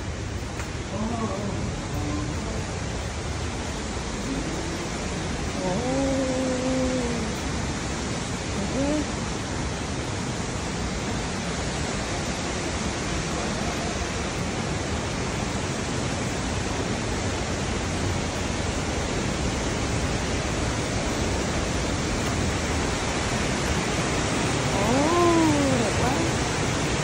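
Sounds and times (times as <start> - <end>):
mountain stream rushing: 0.0 - 27.0.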